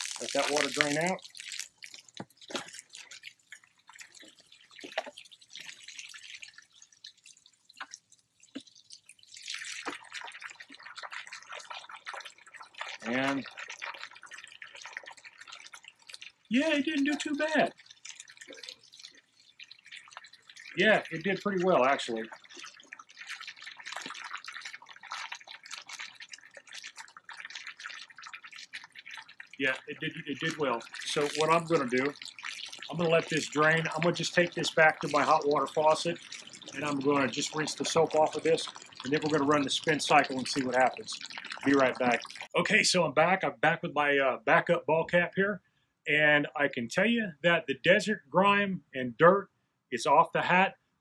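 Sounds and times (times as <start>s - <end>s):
water trickling and dripping: 0.0s - 45.4s.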